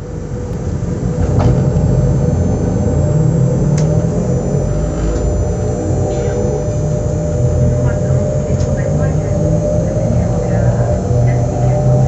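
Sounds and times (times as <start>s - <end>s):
faint steady tones: 0.0s - 12.0s
train equipment low rumble: 0.0s - 12.0s.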